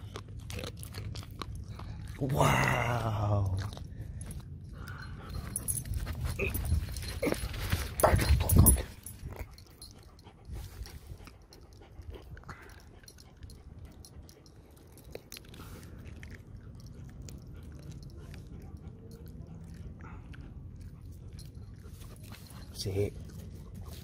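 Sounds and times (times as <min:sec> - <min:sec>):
dogs snapping and chewing: 0:00.0 - 0:24.0.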